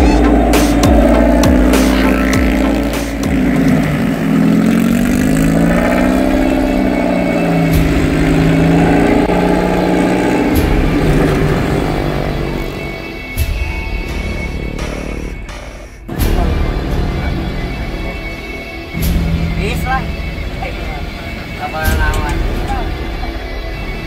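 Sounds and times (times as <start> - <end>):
buggy engine revving: 0.0 - 24.0.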